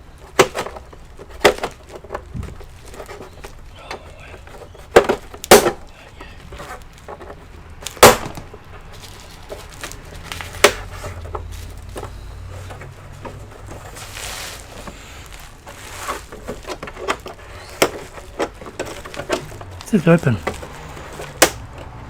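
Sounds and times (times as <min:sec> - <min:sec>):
plastic scrape: 0:00.1 - 0:22.0
plastic clips snapping: 0:00.3 - 0:13.9, 0:14.6 - 0:22.0.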